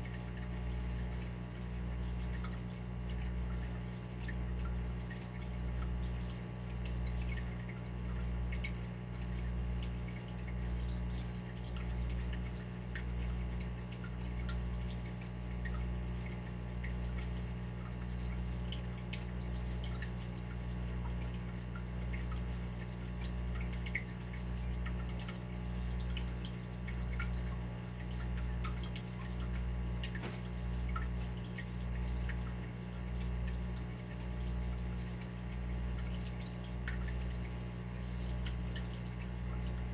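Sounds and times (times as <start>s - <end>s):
water dripping: 0.0s - 39.9s.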